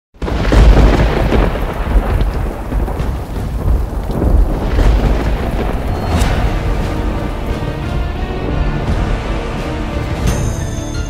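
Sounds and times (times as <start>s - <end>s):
rain hissing: 0.2s - 10.3s
sharp thunder crack: 0.2s - 10.3s
thunder rumbling: 0.2s - 10.3s.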